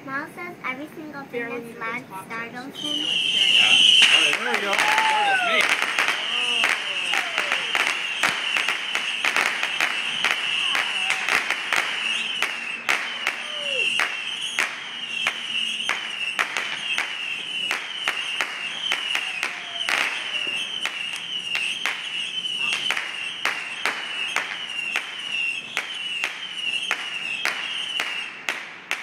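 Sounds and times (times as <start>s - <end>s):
fireworks popping and cracking: 2.8s - 29.0s.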